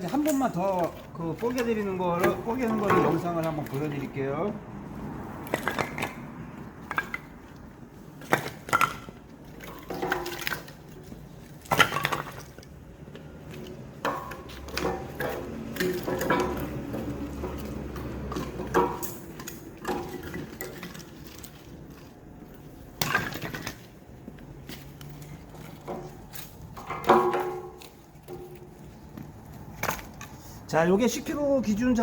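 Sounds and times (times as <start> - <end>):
split wood clattering down: 0.0 - 4.2, 5.4 - 6.2, 8.2 - 12.8, 13.4 - 24.1, 24.7 - 30.4
wood splitting cracks: 0.0 - 4.3, 5.3 - 30.4.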